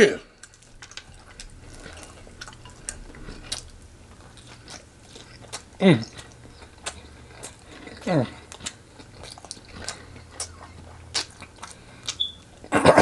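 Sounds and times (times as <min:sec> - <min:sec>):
biting and chewing crunchy food: 0:00.0 - 0:13.0.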